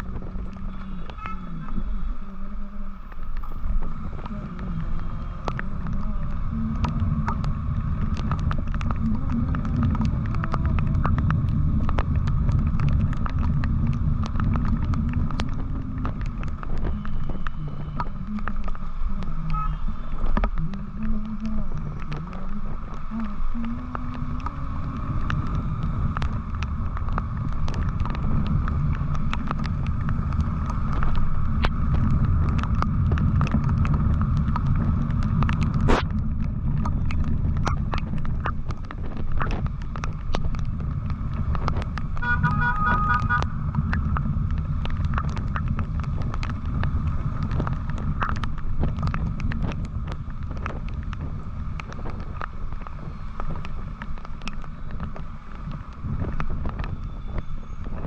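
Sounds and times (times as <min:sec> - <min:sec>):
raindrops ticking: 0:00.0 - 0:58.0
wind rumbling on microphone: 0:00.0 - 0:58.0.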